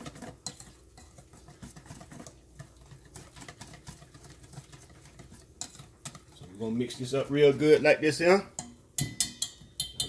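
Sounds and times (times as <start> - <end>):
batter sloshing: 0.0 - 8.5
whisk clicking in metal bowl: 0.0 - 10.0.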